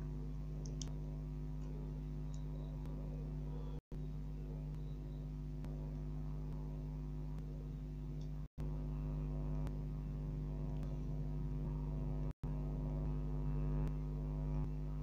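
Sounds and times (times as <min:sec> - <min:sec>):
buzzy electrical hum: 0:00.0 - 0:15.0.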